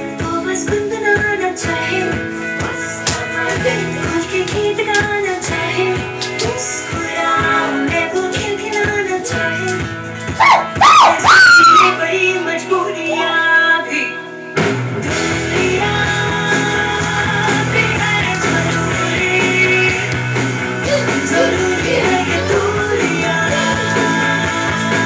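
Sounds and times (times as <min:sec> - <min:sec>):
bass: 0:00.0 - 0:25.0
song with singing and guitar: 0:00.0 - 0:25.0.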